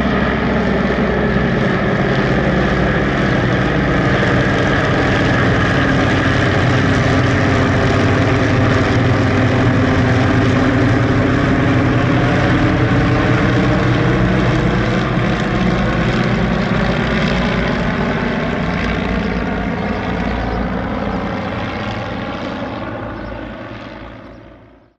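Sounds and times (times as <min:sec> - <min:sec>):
propeller aeroplane engine drone: 0:00.0 - 0:24.9.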